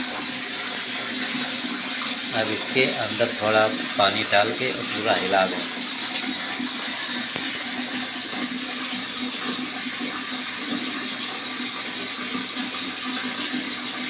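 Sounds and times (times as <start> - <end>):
water pouring and splashing: 0.0 - 14.0.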